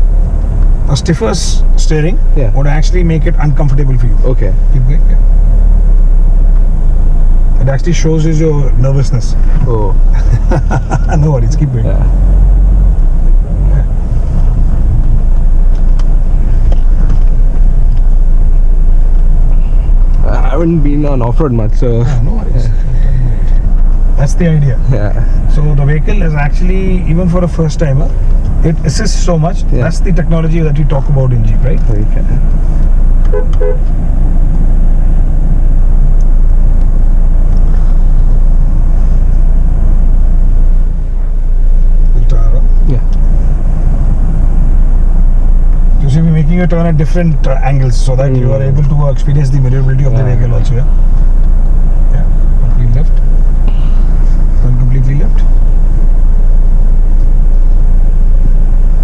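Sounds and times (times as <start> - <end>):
engine and running gear rumble: 0.0 - 59.0.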